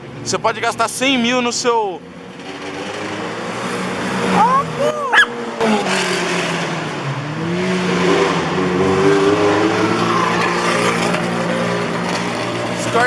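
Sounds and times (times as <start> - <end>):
race car engines droning: 0.0 - 13.0
car accelerating: 0.8 - 13.0.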